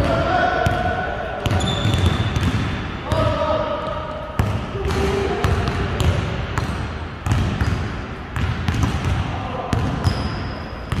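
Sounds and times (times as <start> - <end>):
basketball bouncing: 0.0 - 3.3, 4.4 - 10.2.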